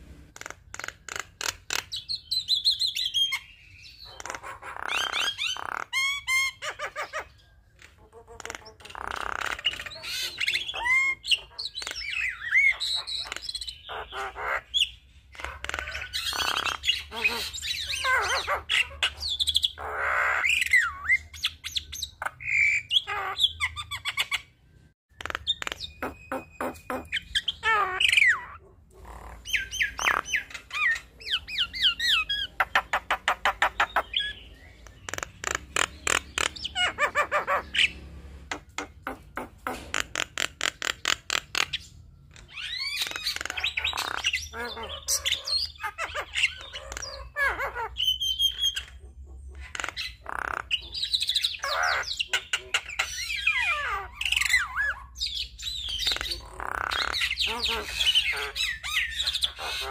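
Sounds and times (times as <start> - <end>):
myna bird singing: 0.0 - 59.9.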